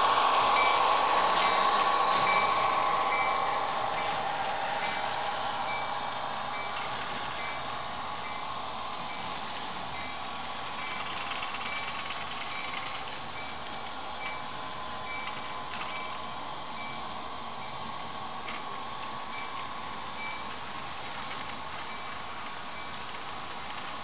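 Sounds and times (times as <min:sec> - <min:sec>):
model locomotive hum: 0:00.0 - 0:24.0.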